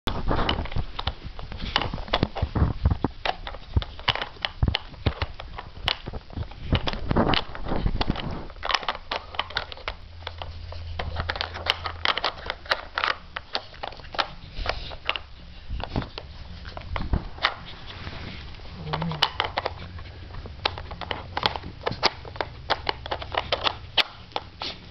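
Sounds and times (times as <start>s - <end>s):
plastic puzzle pieces clicking: 0.1s - 17.6s, 18.6s - 24.6s.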